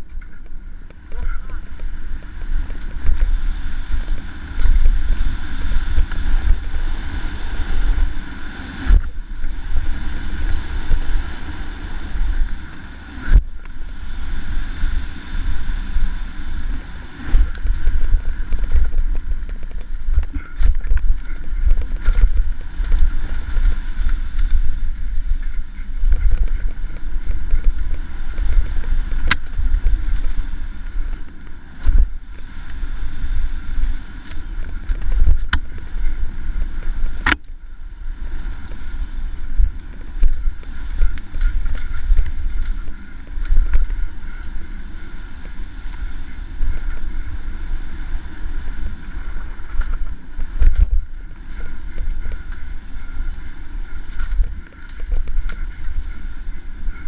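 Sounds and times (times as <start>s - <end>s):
bike rattling over dirt: 0.0s - 57.0s
wind buffeting microphone: 0.0s - 57.0s.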